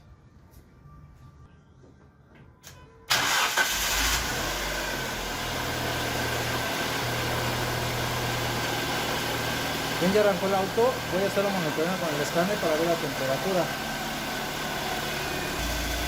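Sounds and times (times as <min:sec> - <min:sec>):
car engine starting and idling: 0:03.1 - 0:16.0.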